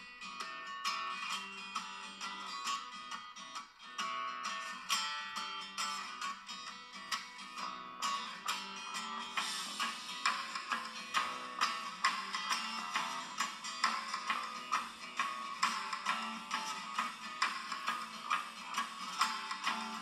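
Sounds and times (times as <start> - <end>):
strummed guitar: 0.0 - 20.0.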